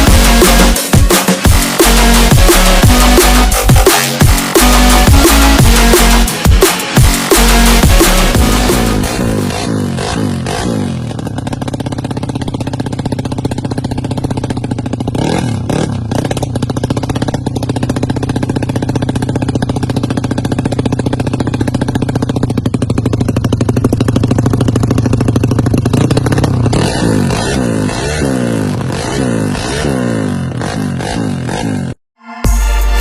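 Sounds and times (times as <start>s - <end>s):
scooter engine idling: 0.0s - 32.0s
scooter engine revving: 0.0s - 32.0s.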